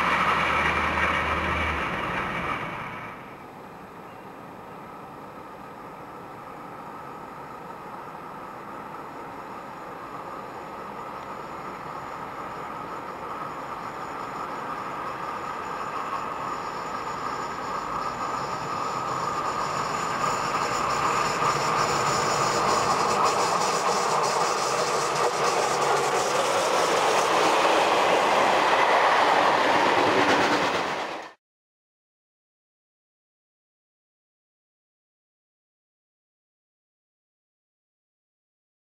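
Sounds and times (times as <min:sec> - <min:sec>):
freight train wheels rolling on rails: 0:00.0 - 0:31.4.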